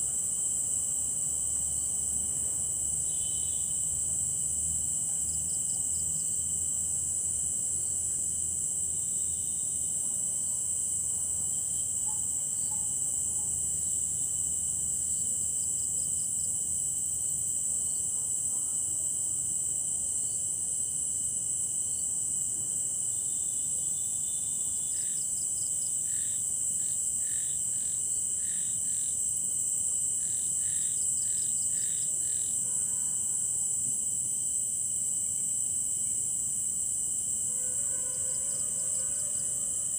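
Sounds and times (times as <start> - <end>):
crickets trilling: 0.0 - 39.9
lower insect tone: 0.0 - 39.9.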